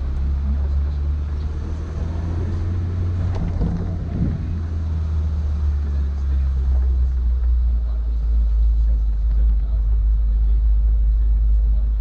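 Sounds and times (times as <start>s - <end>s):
car engine droning: 0.0s - 12.0s
wind and road noise: 0.0s - 12.0s.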